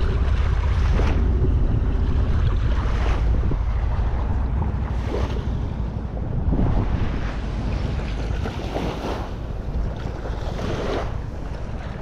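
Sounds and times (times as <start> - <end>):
small waves lapping on shore: 0.0 - 12.0
wind buffeting microphone: 0.0 - 12.0.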